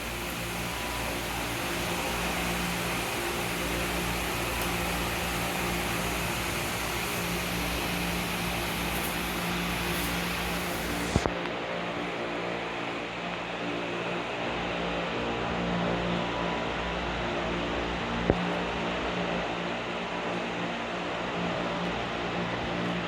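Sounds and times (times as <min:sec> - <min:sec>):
mechanical hum and hiss: 0:00.0 - 0:23.0.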